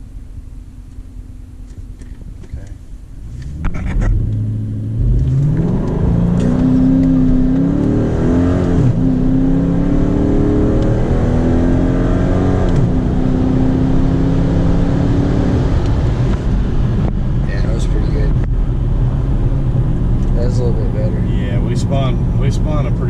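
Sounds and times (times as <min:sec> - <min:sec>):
engine accelerating hard: 0:02.5 - 0:23.0.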